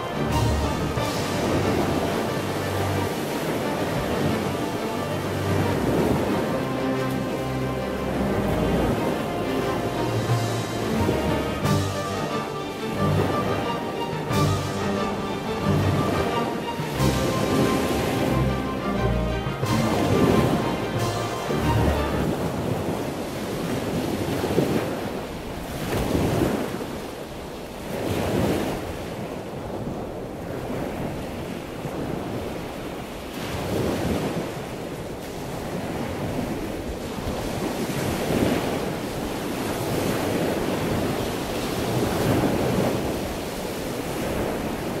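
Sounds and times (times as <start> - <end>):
waves washing in: 0.0 - 45.0
wind: 0.0 - 45.0.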